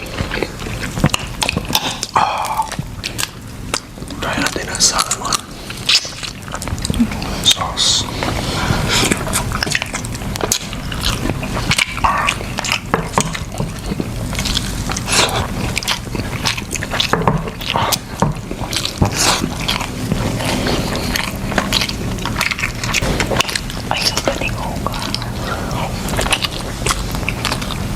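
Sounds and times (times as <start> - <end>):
wet chewing and smacking: 0.0 - 27.9.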